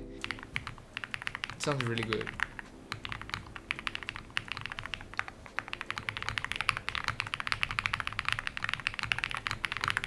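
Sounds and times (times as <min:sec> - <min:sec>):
mechanical keyboard typing: 0:00.2 - 0:10.0.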